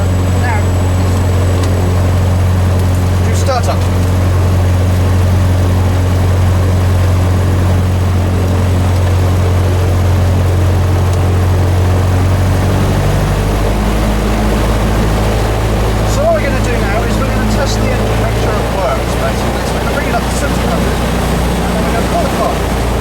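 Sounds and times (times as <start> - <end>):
aircraft engine and propeller: 0.0 - 23.0.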